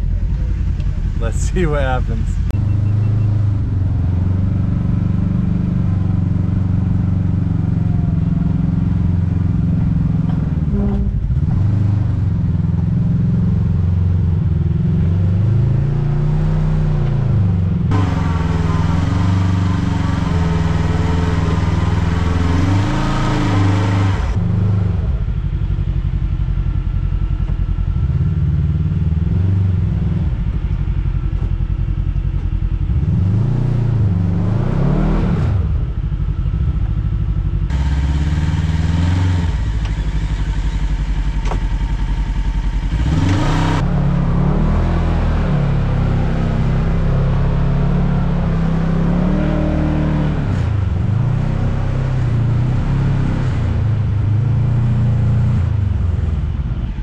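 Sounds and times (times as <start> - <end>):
utv engine running hard: 0.0 - 57.0
harsh high-revving engine: 0.8 - 25.4, 32.8 - 36.3, 37.0 - 57.0.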